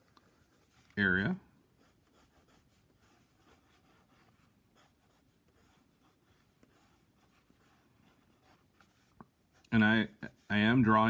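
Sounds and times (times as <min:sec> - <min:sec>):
pencil scratching on paper: 0:00.0 - 0:01.1, 0:01.8 - 0:11.0.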